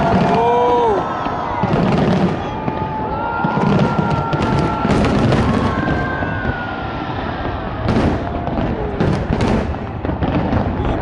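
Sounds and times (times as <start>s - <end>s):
fireworks booming and crackling: 0.0s - 11.0s
fireworks whistling: 0.0s - 11.0s.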